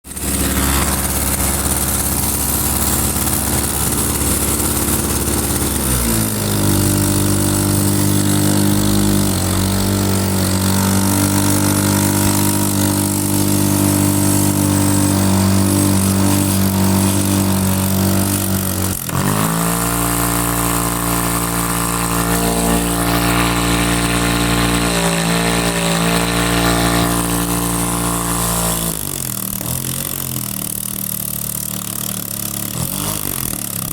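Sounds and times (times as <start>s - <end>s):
small two-stroke engine running: 0.0s - 33.9s.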